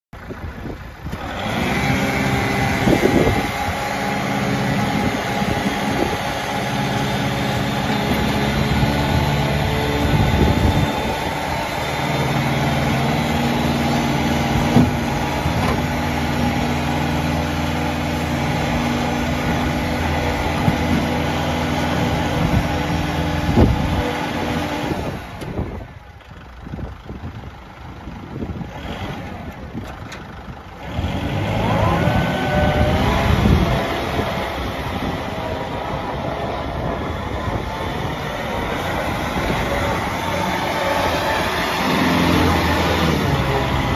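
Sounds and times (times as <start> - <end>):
diesel tractor engine idling: 0.2 - 43.9.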